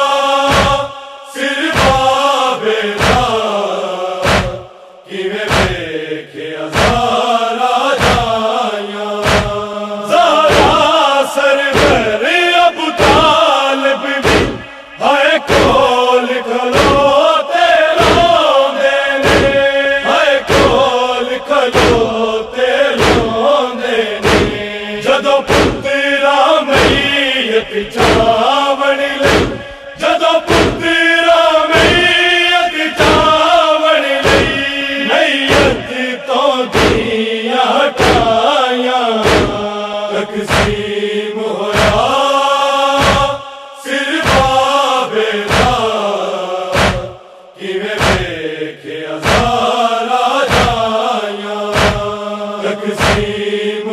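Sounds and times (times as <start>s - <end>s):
rhythmic chest-beating: 0.0s - 6.1s, 6.7s - 11.0s, 11.7s - 12.3s, 13.0s - 18.6s, 19.2s - 26.1s, 26.7s - 27.2s, 27.9s - 28.6s, 29.2s - 33.6s, 34.2s - 36.0s, 36.6s - 37.3s, 37.9s - 38.4s, 39.2s - 41.0s, 41.7s - 48.6s, 49.2s - 53.6s
men chanting in unison: 0.0s - 53.9s.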